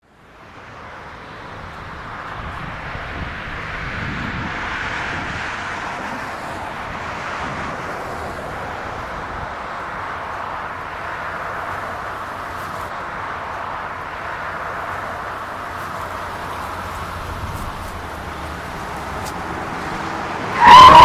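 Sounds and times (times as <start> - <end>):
steady rushing noise: 0.1 - 21.0.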